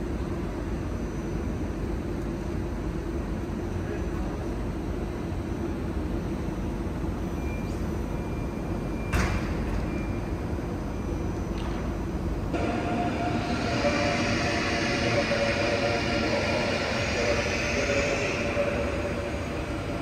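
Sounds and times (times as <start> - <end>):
train ventilation hum and rumble: 0.0 - 20.0.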